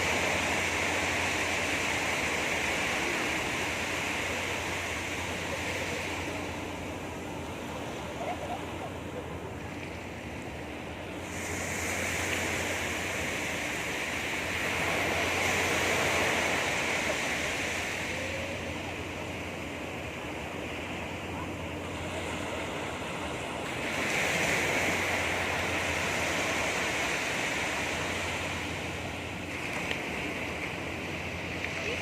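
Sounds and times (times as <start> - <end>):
sea waves breaking on beach: 0.0 - 32.0.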